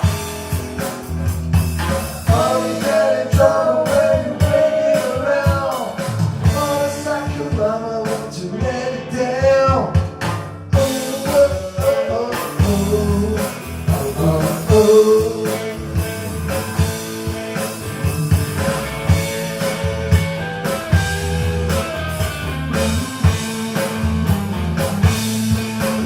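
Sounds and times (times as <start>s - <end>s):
sliding melodic lead line: 0.0s - 8.0s, 10.8s - 26.0s
drum kit beat: 0.0s - 26.0s
rock band playing: 0.0s - 26.0s.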